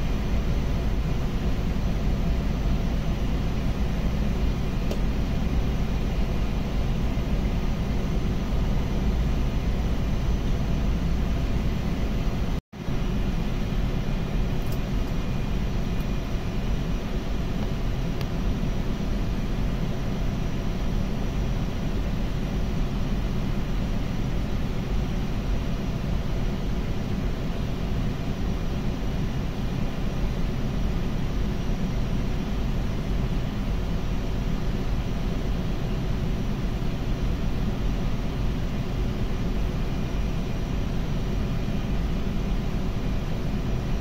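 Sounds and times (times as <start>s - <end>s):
machinery drone with hiss: 0.0s - 44.0s.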